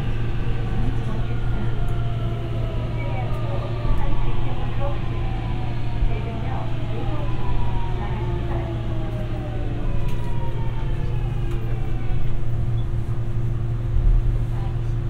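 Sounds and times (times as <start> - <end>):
low train running rumble: 0.0 - 15.0.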